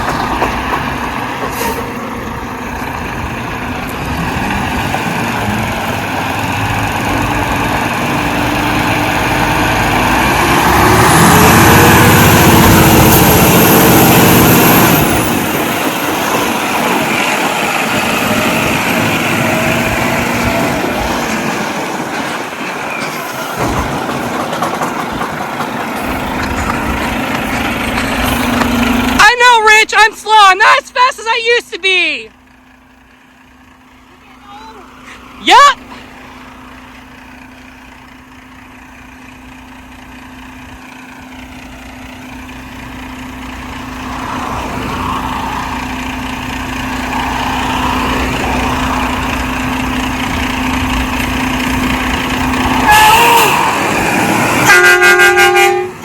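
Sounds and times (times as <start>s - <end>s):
diesel truck engine revving: 0.0s - 22.8s, 25.4s - 29.2s, 32.3s - 56.0s.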